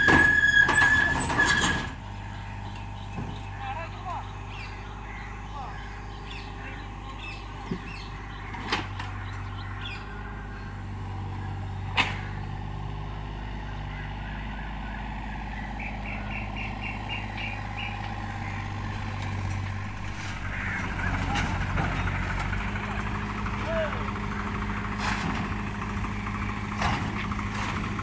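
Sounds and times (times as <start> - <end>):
diesel engine running: 0.0 - 28.0
small birds chirping: 2.0 - 25.0.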